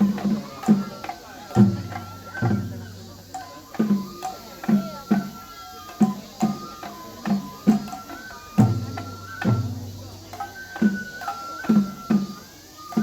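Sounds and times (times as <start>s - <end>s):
bamboo flute melody: 0.0s - 13.0s
taiko drum strokes: 0.0s - 13.0s.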